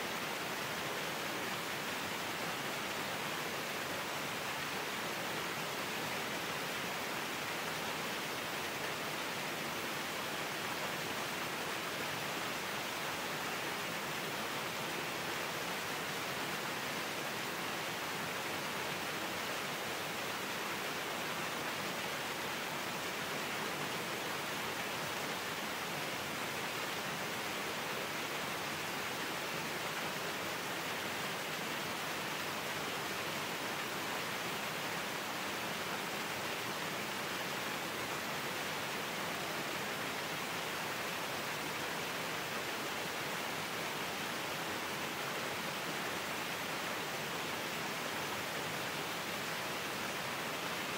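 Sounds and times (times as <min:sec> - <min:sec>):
waterfall splashing over boulders: 0:00.0 - 0:50.9.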